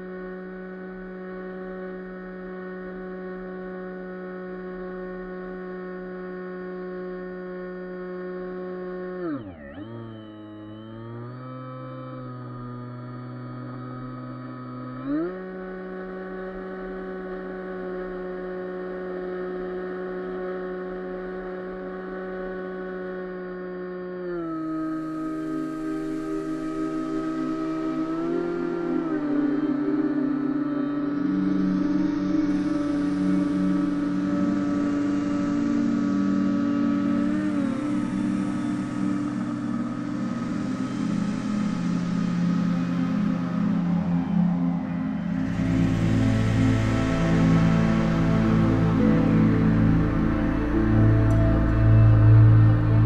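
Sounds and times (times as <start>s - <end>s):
model plane motor whine: 0.0s - 53.0s.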